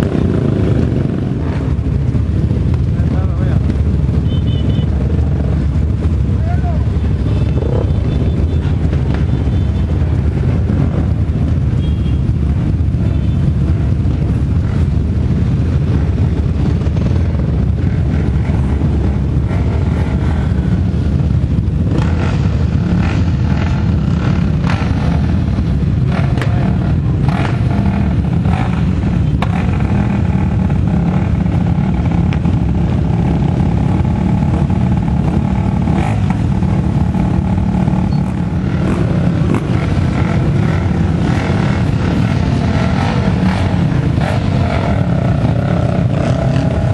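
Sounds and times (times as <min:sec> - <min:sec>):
motorcycle and quad engines revving: 0:00.0 - 0:46.9.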